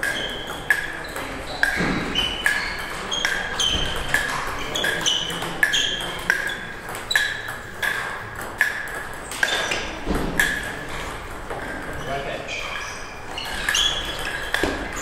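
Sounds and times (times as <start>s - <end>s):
table tennis ball hits: 0.0s - 12.0s, 13.3s - 15.0s.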